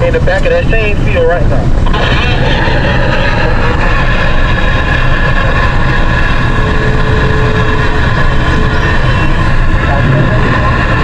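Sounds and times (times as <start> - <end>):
road rumble: 0.0 - 11.0
truck engine: 0.0 - 11.0.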